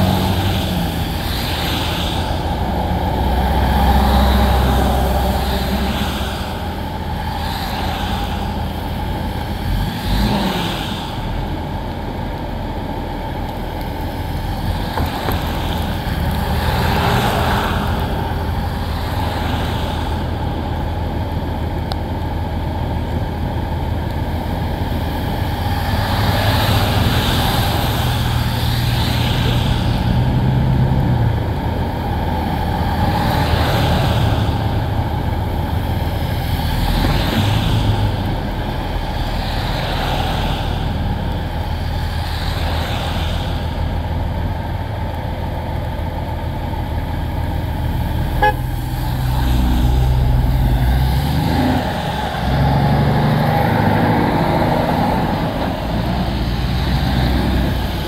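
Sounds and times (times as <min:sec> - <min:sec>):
low hum of engines: 0:00.0 - 0:58.0
tyres hissing on wet road: 0:00.0 - 0:58.0.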